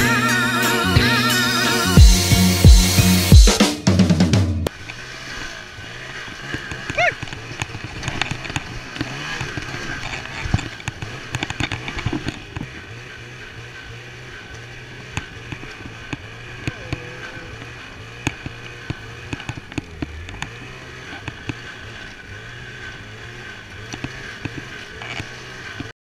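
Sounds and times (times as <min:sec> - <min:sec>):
snowmobile engine idling: 0:04.7 - 0:25.9.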